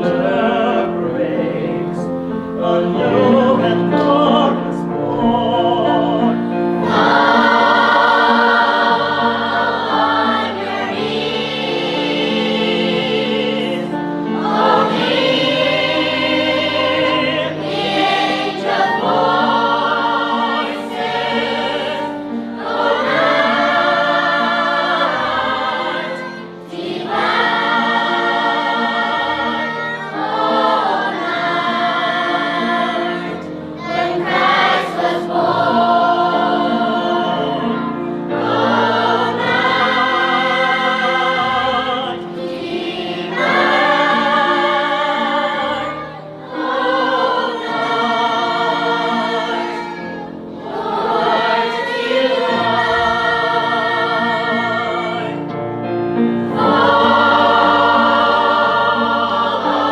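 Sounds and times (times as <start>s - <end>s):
choir singing in parts: 0.0s - 59.9s.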